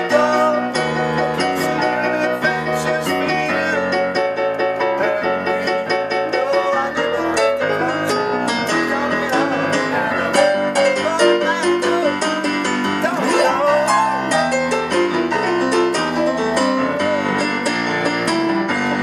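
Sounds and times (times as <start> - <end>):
electronic keyboard piano chords: 0.0 - 19.0.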